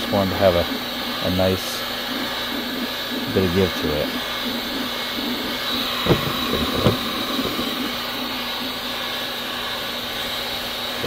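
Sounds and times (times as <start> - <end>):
heat gun blowing hum and whine: 0.0 - 11.0.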